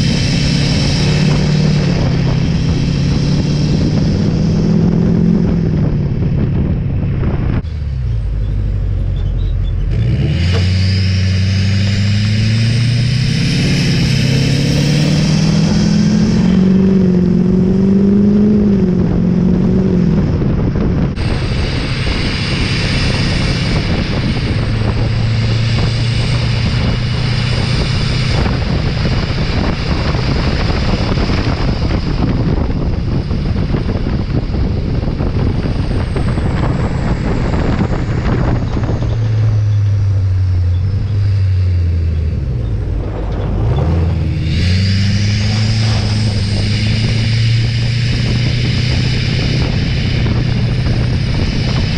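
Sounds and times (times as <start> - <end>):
diesel engine driving: 0.0 - 51.9
wind and road noise: 0.0 - 51.9.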